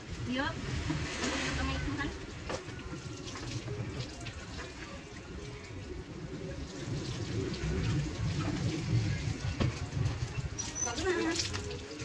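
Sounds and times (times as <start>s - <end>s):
hose water spraying and splashing: 0.0s - 12.0s.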